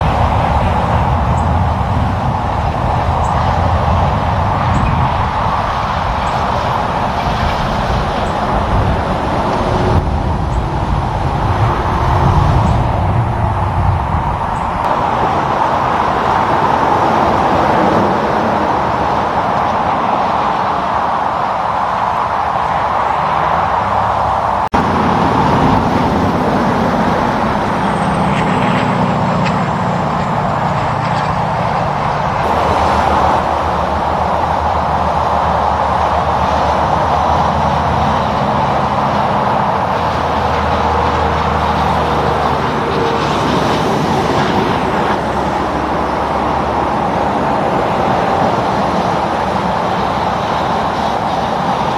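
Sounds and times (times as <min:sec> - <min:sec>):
low truck engine rumble: 0:00.0 - 0:51.9
tyre and road noise: 0:00.0 - 0:51.9.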